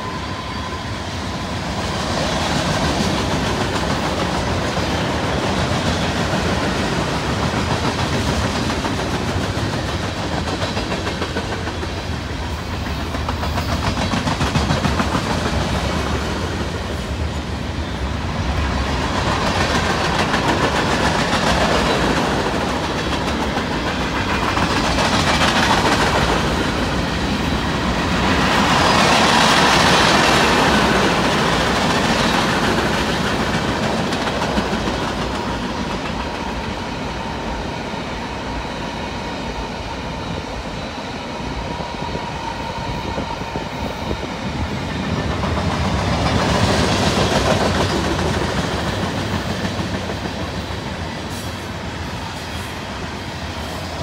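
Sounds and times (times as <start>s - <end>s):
freight train rumble: 0.0s - 54.0s
wheels clickety-clack on rails: 1.4s - 17.6s, 18.2s - 37.8s, 42.8s - 54.0s.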